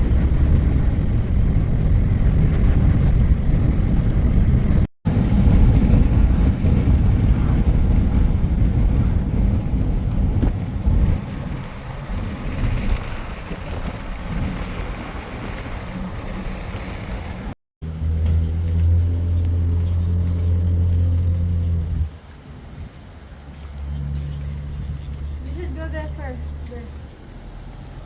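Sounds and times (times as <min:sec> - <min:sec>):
low motor rumble: 0:00.0 - 0:28.0
steady low engine hum: 0:00.0 - 0:28.0
wind buffeting microphone: 0:00.0 - 0:28.0.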